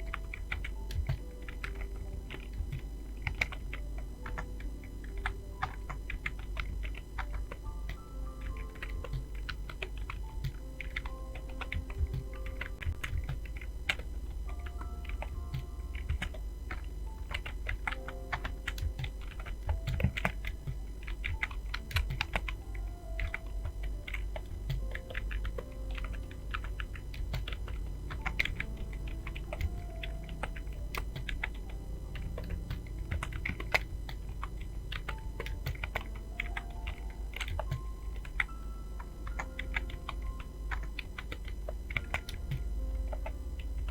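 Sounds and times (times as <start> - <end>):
faint background music: 0.0 - 43.9
fast typing on keyboard: 0.0 - 43.9
low hum: 0.0 - 43.9.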